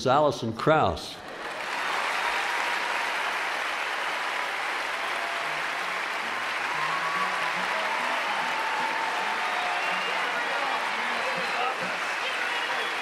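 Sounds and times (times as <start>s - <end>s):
audience applauding: 1.2s - 13.0s.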